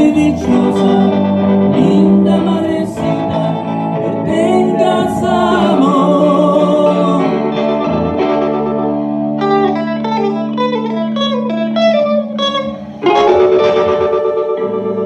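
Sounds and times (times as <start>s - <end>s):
electric guitar through amplifier: 0.0s - 15.0s.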